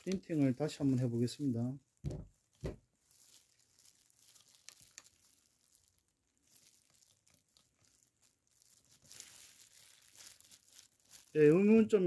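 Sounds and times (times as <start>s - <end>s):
plastic sheet crinkling: 0.0s - 12.0s.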